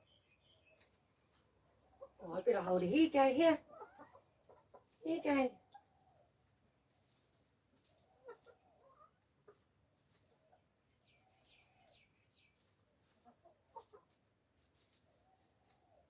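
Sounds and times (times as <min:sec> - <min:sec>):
hens clucking softly: 0:00.1 - 0:16.0.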